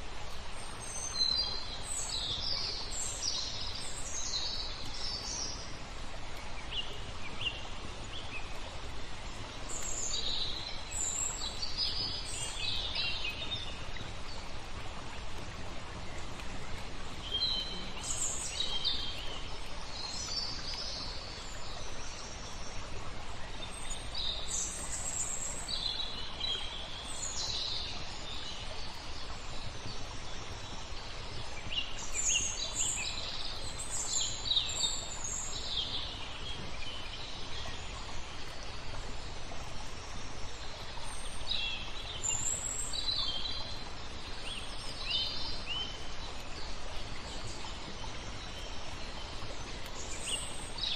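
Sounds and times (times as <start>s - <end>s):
flowing water rushing: 0.0s - 50.9s
small birds chirping: 0.0s - 50.9s.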